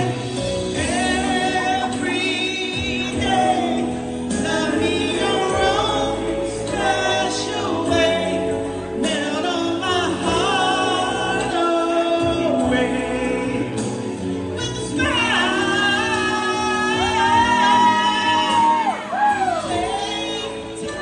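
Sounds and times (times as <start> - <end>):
person singing with vibrato: 0.0 - 21.0
sustained musical accompaniment: 0.0 - 21.0.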